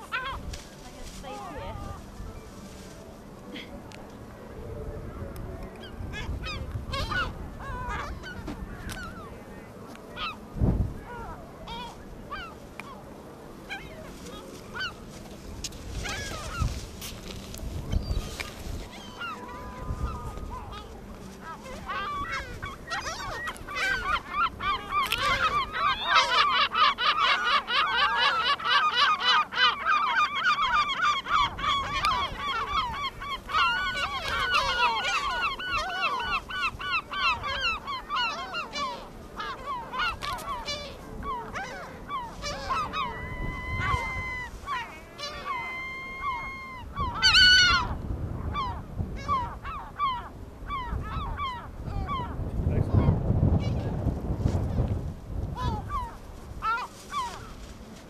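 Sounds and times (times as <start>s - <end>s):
gulls calling: 0.0s - 54.1s, 55.4s - 58.0s.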